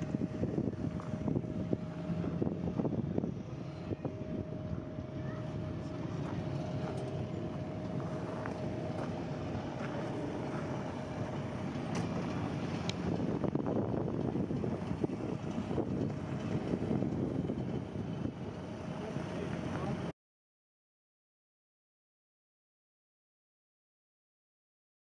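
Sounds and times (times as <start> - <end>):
wind buffeting microphone: 0.0 - 20.1.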